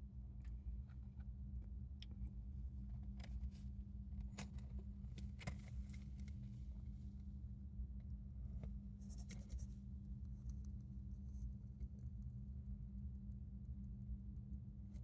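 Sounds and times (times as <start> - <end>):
steady low hum: 0.0 - 15.0
hamster clicks and scratches: 0.5 - 6.4, 8.5 - 15.0.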